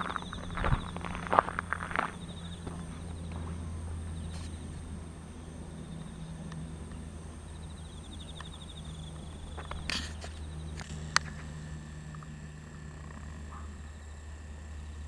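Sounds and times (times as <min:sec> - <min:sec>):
insects chirping: 0:00.0 - 0:15.0
steady low hum: 0:00.0 - 0:15.0.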